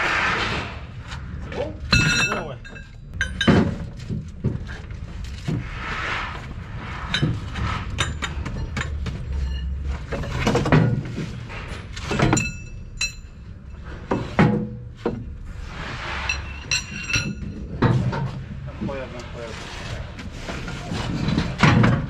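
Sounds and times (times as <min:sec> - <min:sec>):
low rumble: 0:00.0 - 0:14.1, 0:14.8 - 0:22.0.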